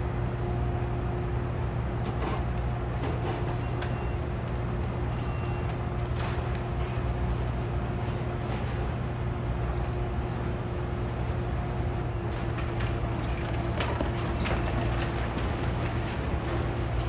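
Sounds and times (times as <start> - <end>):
diesel machinery droning: 0.0 - 17.0.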